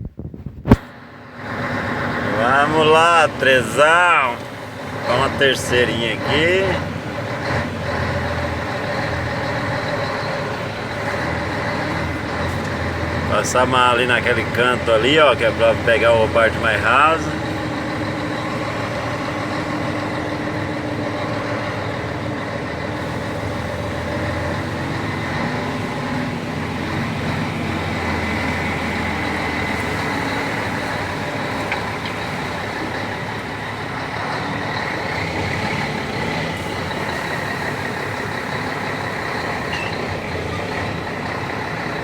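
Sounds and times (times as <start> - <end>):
diesel truck engine pulling: 0.7 - 42.0.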